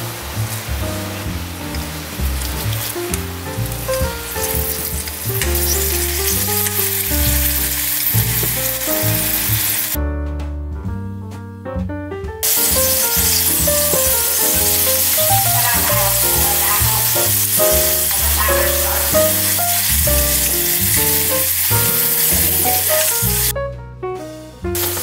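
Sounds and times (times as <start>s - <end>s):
garlic sizzling in hot oil: 0.0s - 10.0s, 12.4s - 23.5s, 24.8s - 25.0s.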